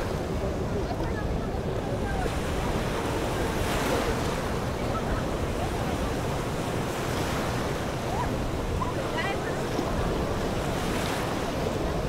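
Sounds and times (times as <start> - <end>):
choppy sea water: 0.0 - 12.0.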